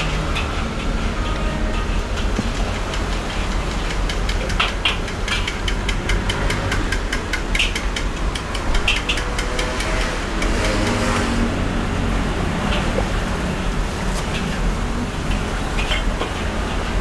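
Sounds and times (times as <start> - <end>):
train rumbling: 0.0 - 17.0
wheels clattering over rail joints: 0.0 - 17.0.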